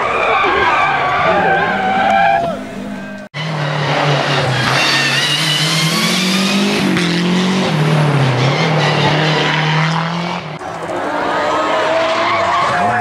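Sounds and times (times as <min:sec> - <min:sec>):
rally car engine revving high: 0:01.2 - 0:13.0.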